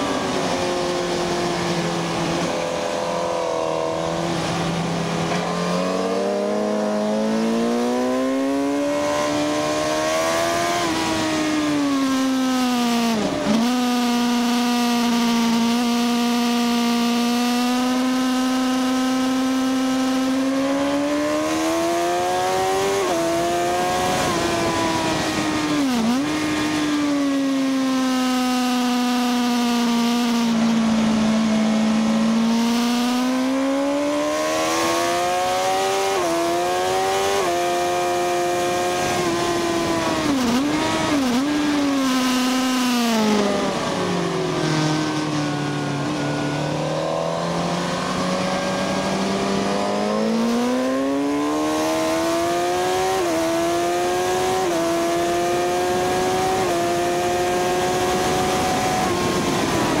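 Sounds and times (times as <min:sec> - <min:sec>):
motorcycle engine revving through gears: 0:00.0 - 1:00.0.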